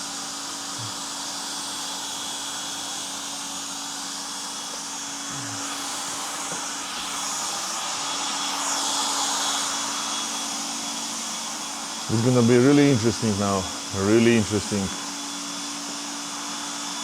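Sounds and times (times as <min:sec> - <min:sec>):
electric polisher on glass: 0:00.0 - 0:17.0.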